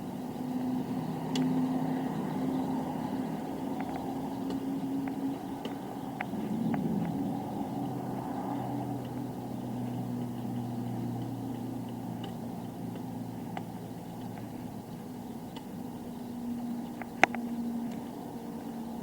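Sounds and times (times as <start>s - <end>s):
road noise: 0.0s - 19.0s
vehicle engine humming: 0.0s - 19.0s.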